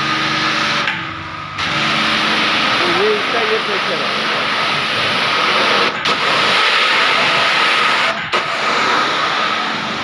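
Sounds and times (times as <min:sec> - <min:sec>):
pressure washer water jet hissing: 0:01.6 - 0:10.0.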